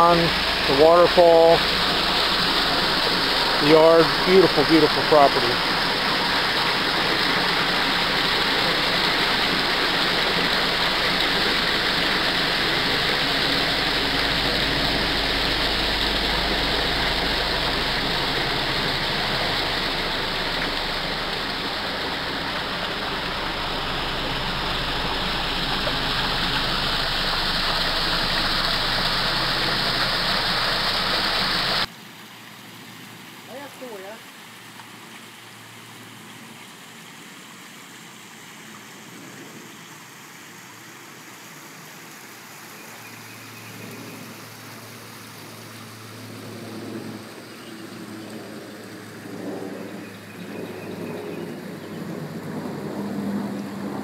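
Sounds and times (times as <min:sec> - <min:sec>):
waterfall splashing: 0:00.0 - 0:46.5.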